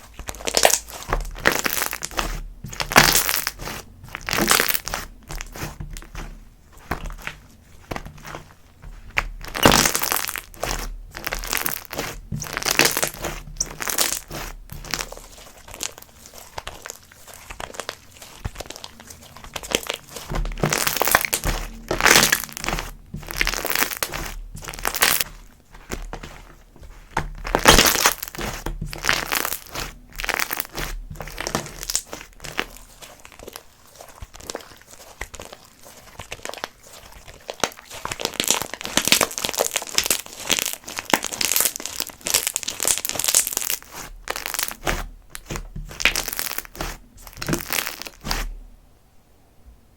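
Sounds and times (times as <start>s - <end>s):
slime squished by hand: 0.0s - 48.7s.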